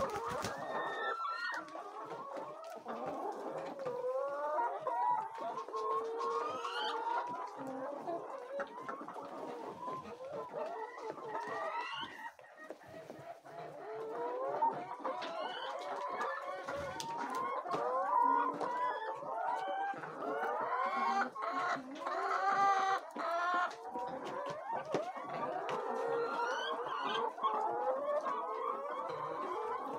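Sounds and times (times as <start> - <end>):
hens clucking: 0.0 - 29.9.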